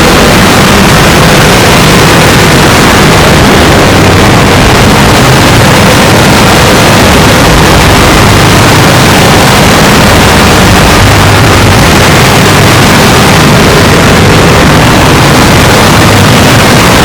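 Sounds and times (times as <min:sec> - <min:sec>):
distorted digital noise: 0:00.0 - 0:17.0
low drone: 0:00.0 - 0:17.0.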